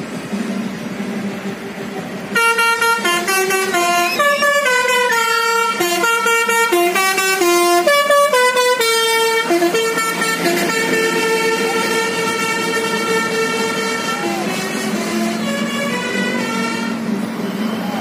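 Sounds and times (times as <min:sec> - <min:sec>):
multi-tone air horn melody: 0:02.3 - 0:17.7.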